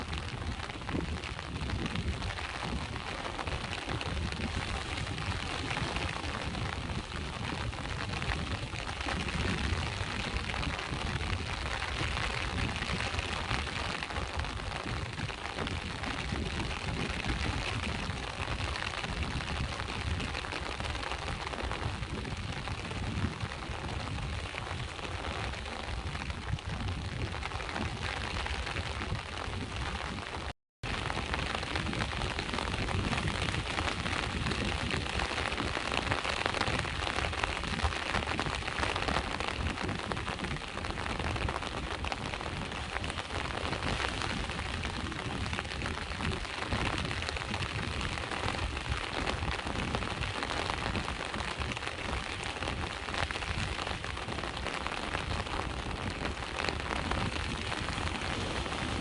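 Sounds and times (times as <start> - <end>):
rain falling: 0.0 - 59.0
sea waves rumbling: 0.0 - 59.0.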